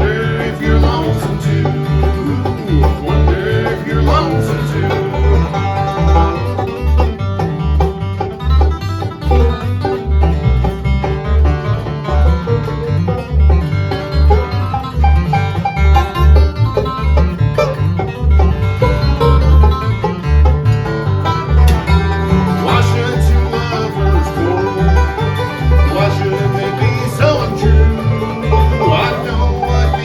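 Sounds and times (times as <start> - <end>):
low bass pulse: 0.0 - 30.0
plucked string instruments: 0.0 - 30.0.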